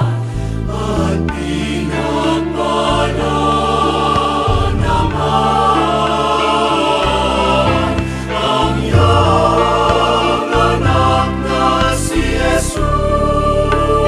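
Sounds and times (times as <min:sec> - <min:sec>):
choir singing a hymn: 0:00.0 - 0:14.0
low accompanying notes: 0:00.0 - 0:14.0.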